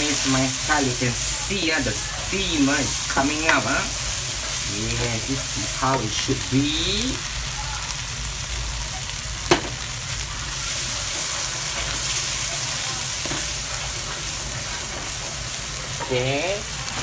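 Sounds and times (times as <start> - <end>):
spice paste sizzling in a wok: 0.0 - 17.0.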